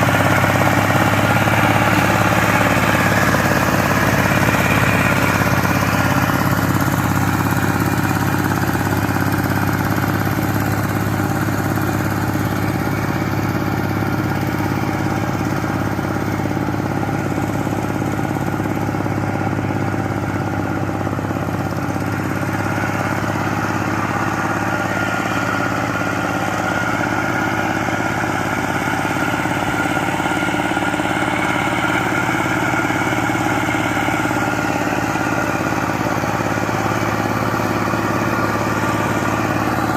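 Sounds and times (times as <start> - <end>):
power tiller engine running: 0.0 - 39.9.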